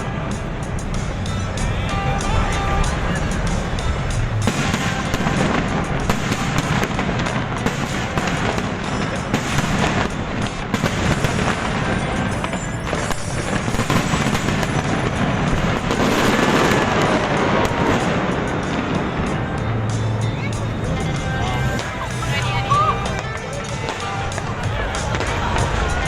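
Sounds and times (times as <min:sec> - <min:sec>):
fireworks bangs and crackles: 0:00.0 - 0:26.0
loud music: 0:00.0 - 0:26.0.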